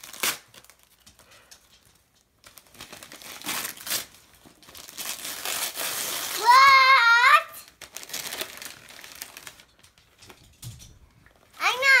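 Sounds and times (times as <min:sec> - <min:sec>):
wrapping paper tearing and crinkling: 0:00.0 - 0:09.8.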